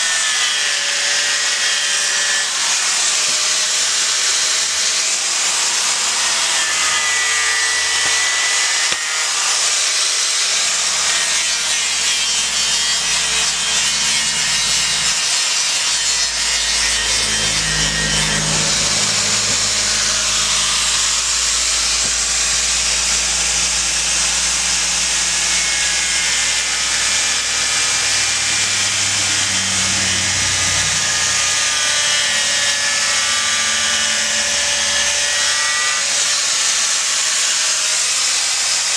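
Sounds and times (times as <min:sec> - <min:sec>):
angle grinder grinding wood: 0:00.0 - 0:38.9.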